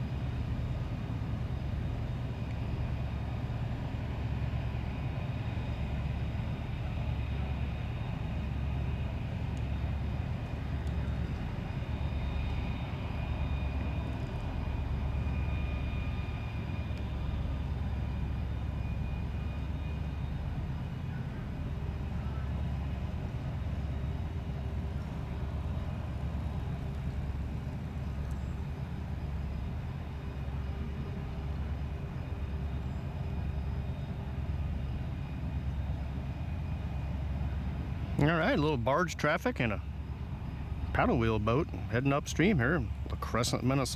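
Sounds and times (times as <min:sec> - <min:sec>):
diesel engine drone: 0:00.0 - 0:43.9.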